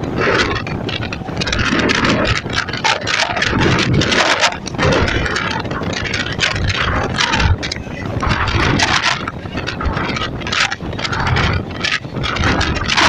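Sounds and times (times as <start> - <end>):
train wheels on rails: 0.0 - 13.0
wind buffeting microphone: 0.0 - 13.0.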